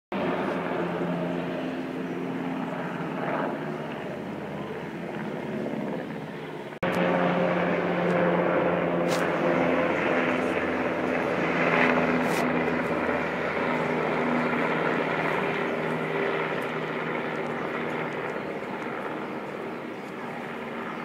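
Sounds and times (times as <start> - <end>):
helicopter flying overhead: 0.1 - 21.0.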